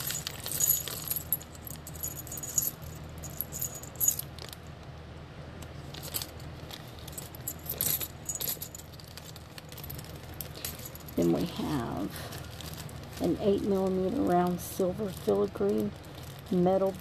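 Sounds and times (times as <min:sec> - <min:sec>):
iron beads clinking: 0:00.0 - 0:04.6, 0:05.9 - 0:17.0
low steady hum: 0:00.0 - 0:17.0.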